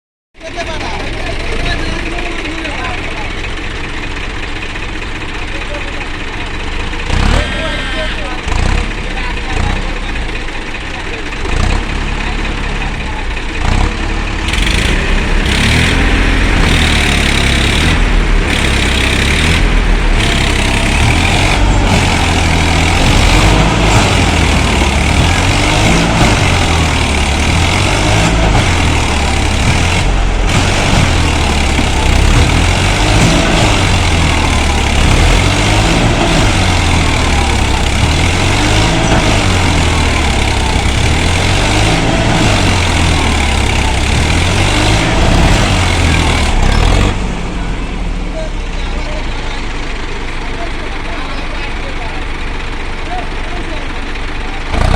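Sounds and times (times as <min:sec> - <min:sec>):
heavy diesel machines working: 0:00.4 - 0:54.9.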